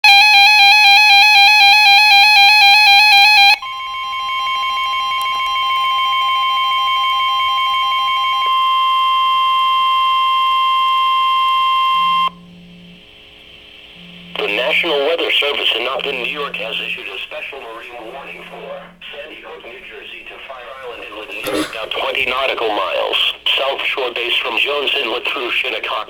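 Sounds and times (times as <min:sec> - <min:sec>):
steady alarm tone: 0:00.0 - 0:24.3.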